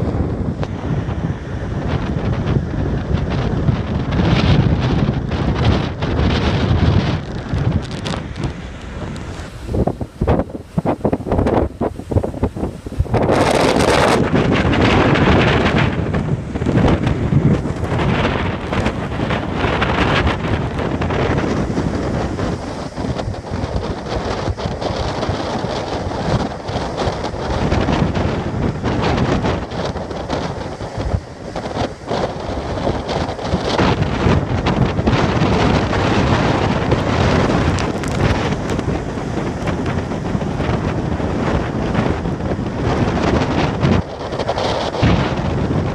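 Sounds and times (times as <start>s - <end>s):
rough sea: 0.0s - 45.9s
wind buffeting microphone: 0.0s - 45.9s.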